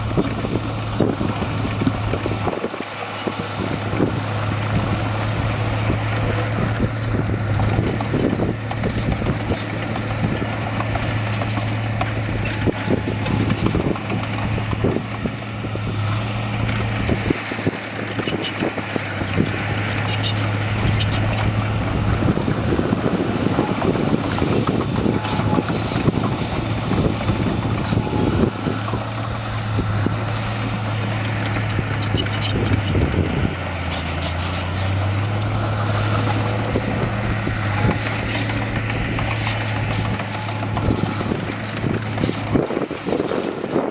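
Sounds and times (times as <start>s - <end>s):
metal and rock clanking: 0.0s - 43.4s
heavy machinery engine hum: 0.0s - 43.9s.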